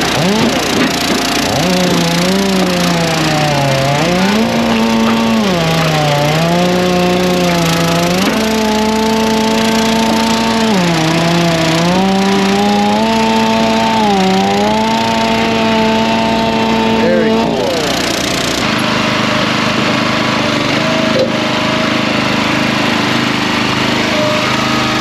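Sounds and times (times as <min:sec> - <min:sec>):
chainsaw cutting at high revs: 0:00.0 - 0:25.0.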